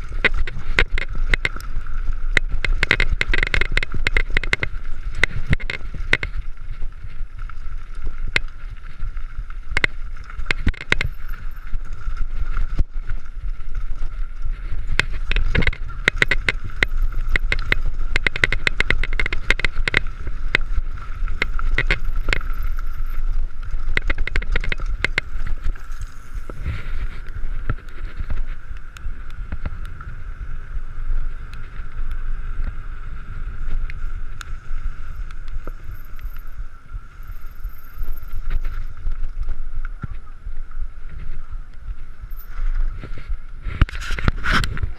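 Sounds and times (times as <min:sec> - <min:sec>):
bike clattering and rattling: 0:00.0 - 0:44.9
wind rumbling on microphone: 0:00.0 - 0:44.9.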